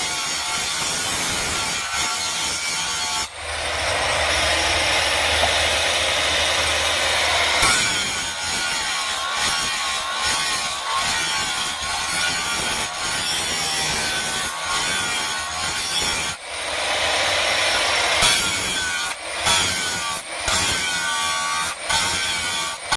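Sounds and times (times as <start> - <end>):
angle grinder grinding metal: 0.0 - 22.9.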